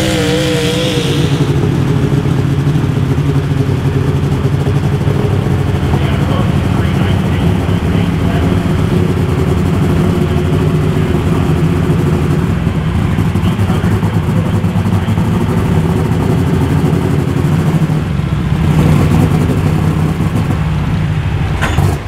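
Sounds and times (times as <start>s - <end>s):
tractor engine running hard: 0.0s - 22.0s.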